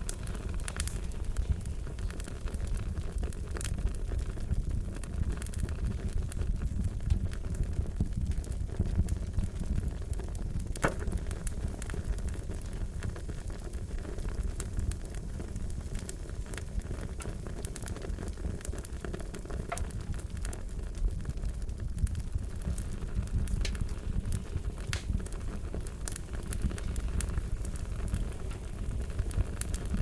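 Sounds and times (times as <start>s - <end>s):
fire crackling: 0.0s - 30.0s
sharp pops of burning wood: 0.0s - 30.0s.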